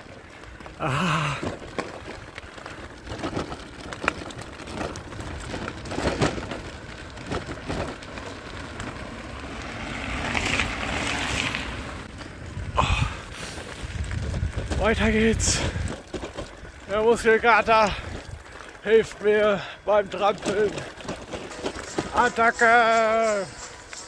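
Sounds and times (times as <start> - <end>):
stones and gravel crunching: 0.0 - 24.0.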